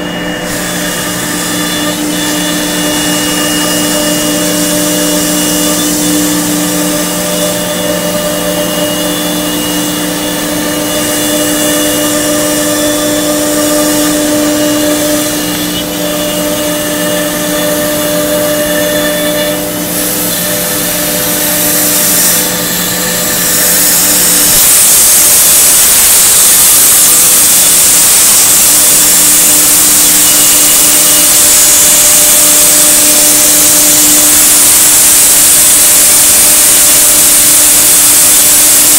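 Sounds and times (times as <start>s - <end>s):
cnc router whining: 0.0s - 38.9s
loud hiss: 0.0s - 38.9s.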